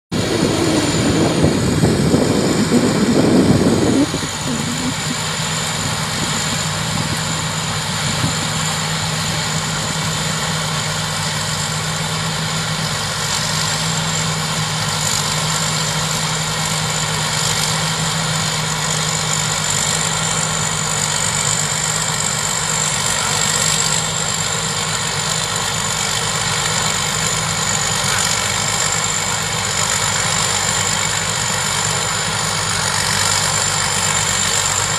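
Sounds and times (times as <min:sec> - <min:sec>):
combine harvester engine running: 0:00.1 - 0:34.9
constant high whine: 0:00.1 - 0:34.9.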